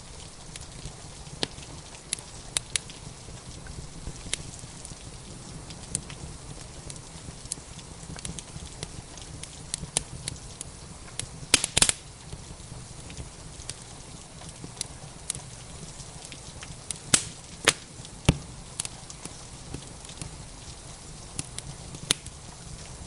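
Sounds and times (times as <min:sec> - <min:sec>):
rain hissing: 0:00.0 - 0:23.0
wood fire crackling and popping: 0:00.0 - 0:23.0.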